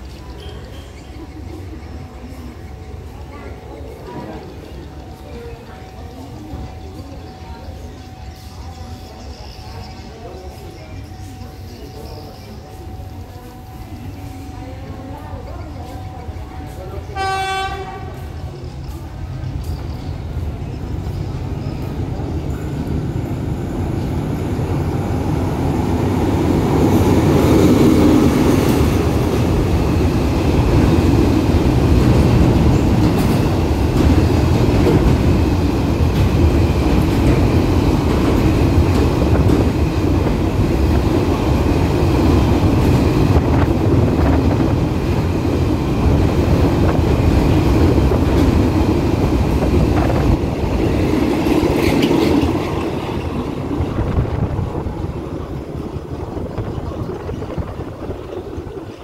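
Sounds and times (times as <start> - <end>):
diesel locomotive passing: 0.0 - 59.0.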